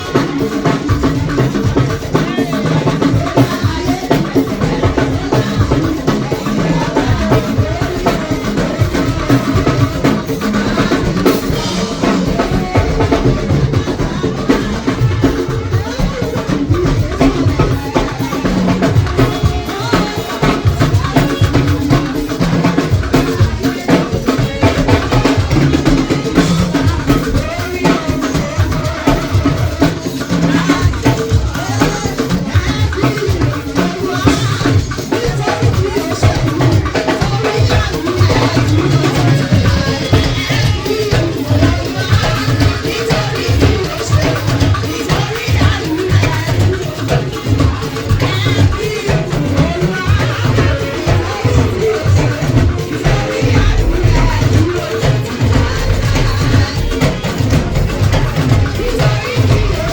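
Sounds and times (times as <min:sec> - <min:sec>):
music with drum kit beat: 0:00.0 - 0:59.9.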